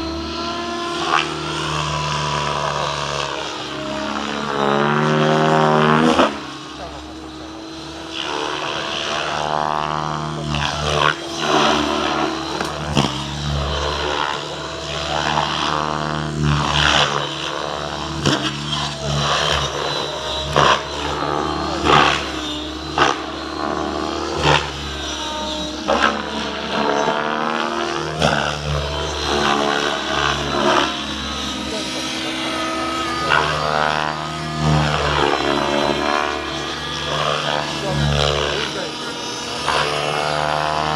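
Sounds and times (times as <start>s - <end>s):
helicopter motor and rotor whine: 0.0s - 40.9s.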